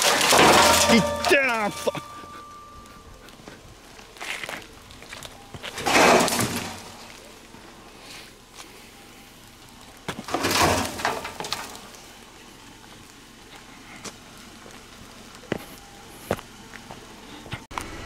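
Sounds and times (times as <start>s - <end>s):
light clicks of debris underfoot: 0.0s - 7.7s, 8.5s - 8.8s, 9.5s - 12.1s, 12.9s - 17.9s.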